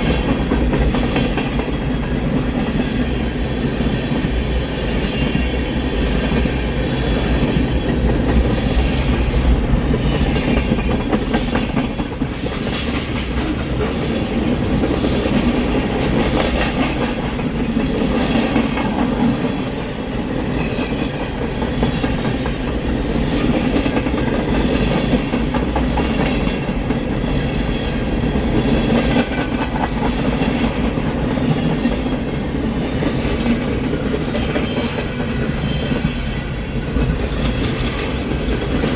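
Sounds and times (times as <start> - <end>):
train rumble: 0.0 - 38.9
train wheels clacking on rail joints: 0.0 - 38.9.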